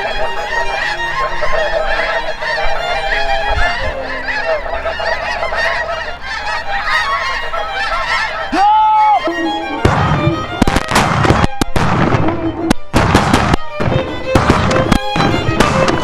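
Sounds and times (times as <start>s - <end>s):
flock of geese honking: 0.0s - 16.0s.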